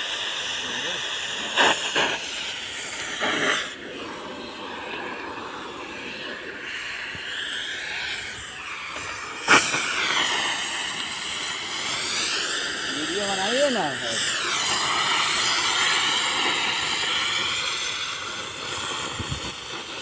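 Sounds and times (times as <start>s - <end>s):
gas cutting torch hissing: 0.0s - 20.0s.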